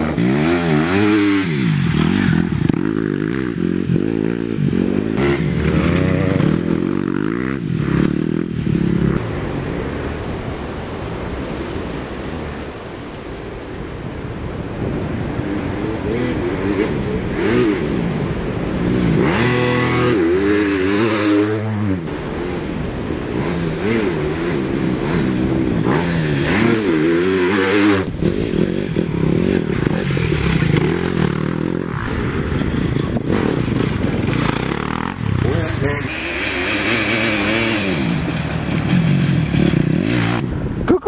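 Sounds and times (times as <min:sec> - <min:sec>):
motorcycle engine revving: 0:00.0 - 0:09.6, 0:14.8 - 0:40.8.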